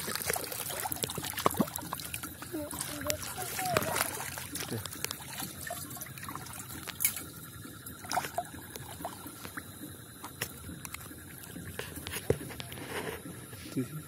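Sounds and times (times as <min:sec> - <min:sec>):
water trickling: 0:00.0 - 0:14.0.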